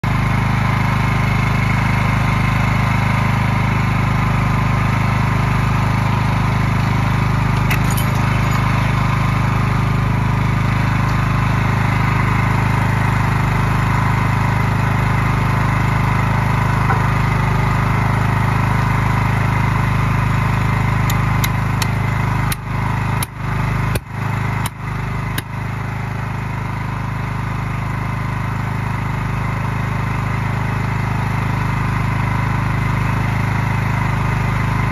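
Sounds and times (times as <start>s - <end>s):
small gas engine running: 0.0s - 34.9s.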